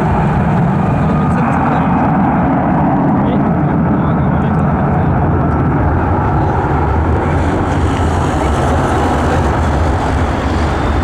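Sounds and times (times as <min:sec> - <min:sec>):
aircraft engines running: 0:00.0 - 0:11.0.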